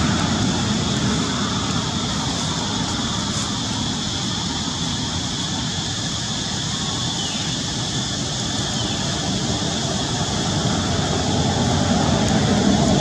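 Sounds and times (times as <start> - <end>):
background rumble and hiss: 0.0 - 13.0.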